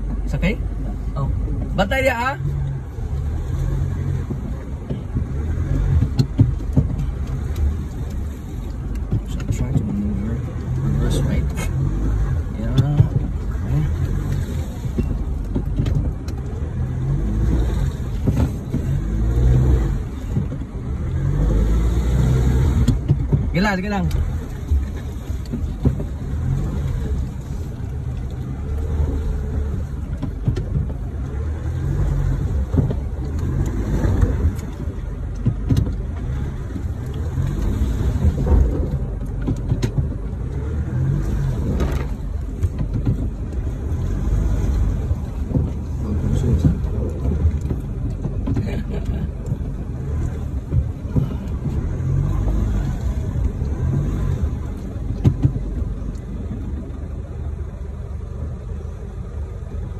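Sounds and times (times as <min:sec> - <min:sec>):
vehicle engine and road rumble: 0:00.0 - 0:59.9
short knocks and rattles: 0:04.2 - 0:20.8, 0:22.6 - 0:31.3, 0:31.9 - 0:57.0.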